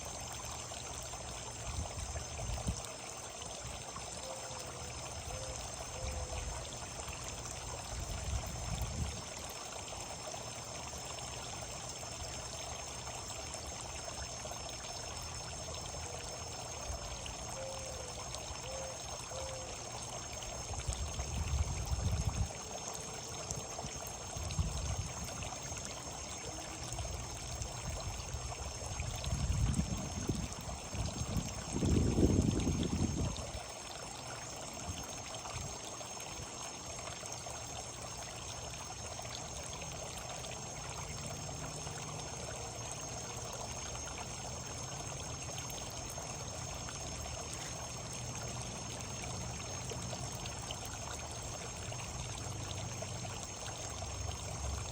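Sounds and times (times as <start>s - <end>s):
running water trickling: 0.0s - 54.9s.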